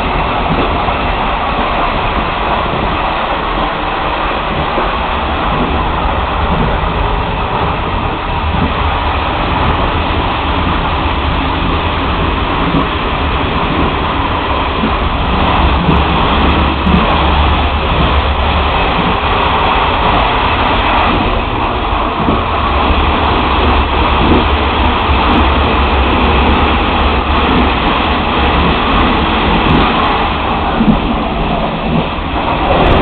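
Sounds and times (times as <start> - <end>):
rushing air: 0.0 - 33.0
train wheels rumbling on rail: 0.0 - 33.0.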